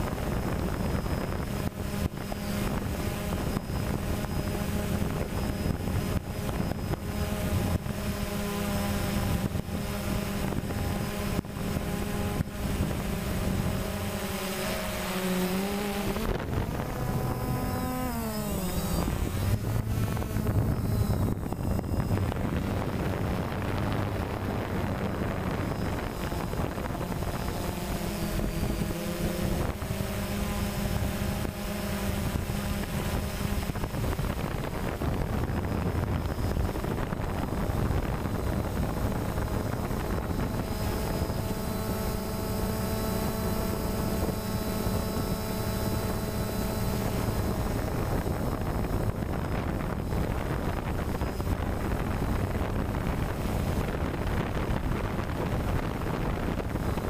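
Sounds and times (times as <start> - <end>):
drone propellers whirring: 0.0 - 57.0
wind rushing over microphone: 0.0 - 57.0.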